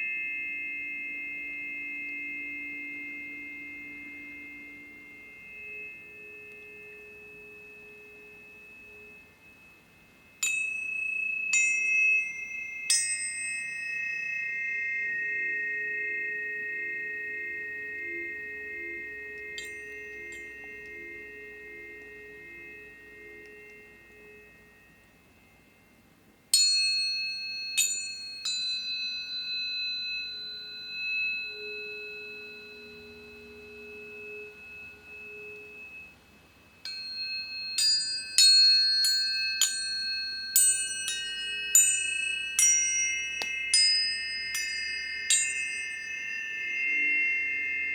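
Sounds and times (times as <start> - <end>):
tuning forks ringing: 0.0 - 47.9.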